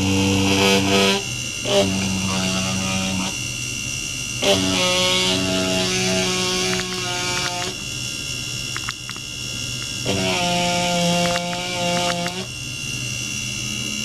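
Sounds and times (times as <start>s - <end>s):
high-pitched electronic whine: 0.0s - 14.0s.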